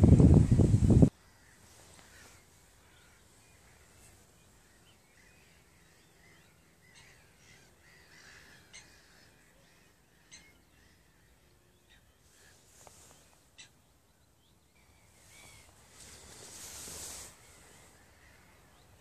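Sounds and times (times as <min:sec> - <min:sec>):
distant gulls calling: 0:00.0 - 0:19.0.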